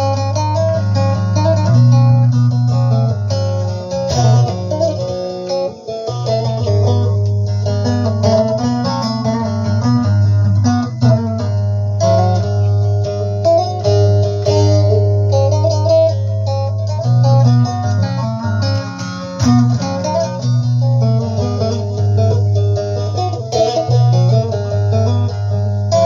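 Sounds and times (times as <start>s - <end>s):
plucked lute melody: 0.0s - 26.0s
sustained bass notes: 0.0s - 26.0s.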